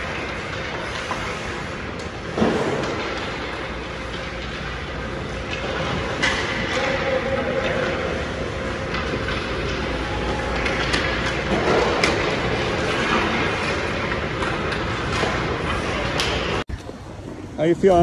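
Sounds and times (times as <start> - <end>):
sticks striking pucks: 0.0 - 17.0.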